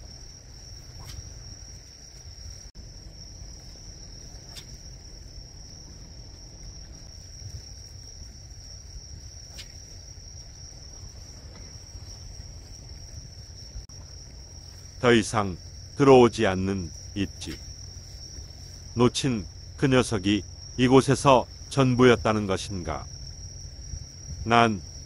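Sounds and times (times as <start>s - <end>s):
crickets chirring: 0.0s - 25.0s
wind rumble on microphone: 0.0s - 25.0s.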